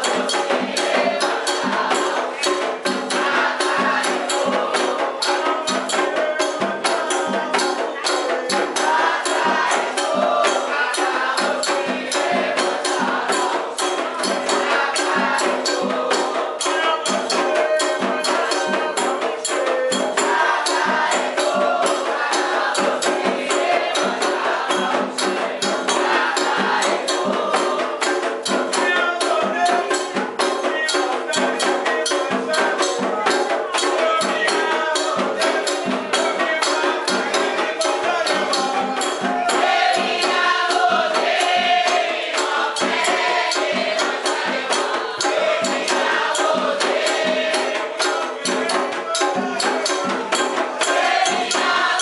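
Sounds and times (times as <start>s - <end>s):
fast percussion beat: 0.0s - 52.0s
voices singing a chant: 0.0s - 52.0s.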